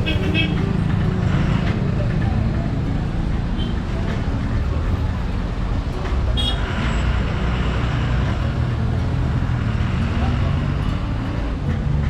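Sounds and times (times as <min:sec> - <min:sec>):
passing vehicles rumble: 0:00.0 - 0:12.0.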